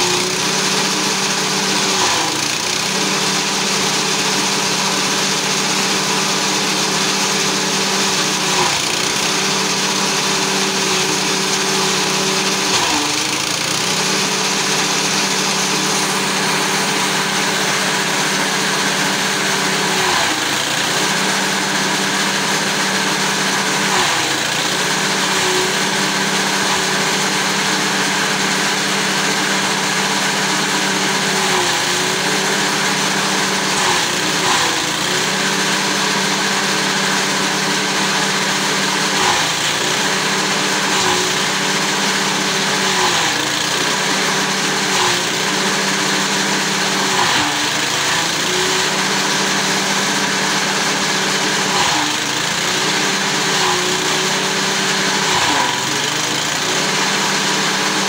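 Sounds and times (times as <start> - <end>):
corn stalks being shredded: 0.0 - 58.0
small petrol engine running: 0.0 - 58.0.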